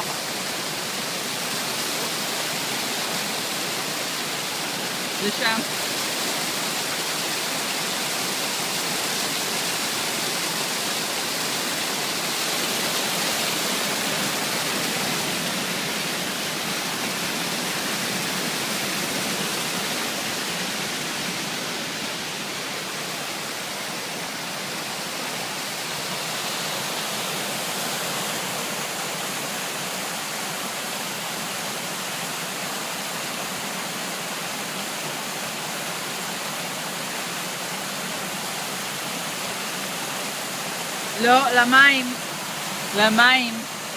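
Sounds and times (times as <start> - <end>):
water fountain running: 0.0 - 43.9.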